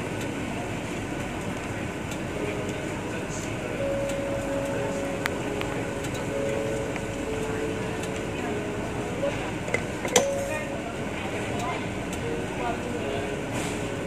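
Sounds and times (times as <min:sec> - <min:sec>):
faint voices: 0:00.0 - 0:14.0.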